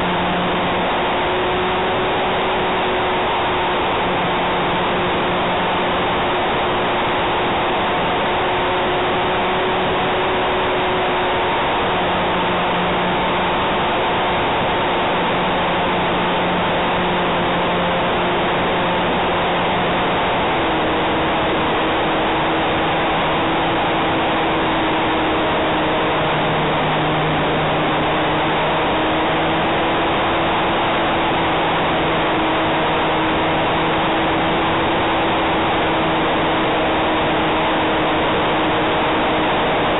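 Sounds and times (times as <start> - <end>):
model plane motor and propeller hum: 0.0 - 39.9.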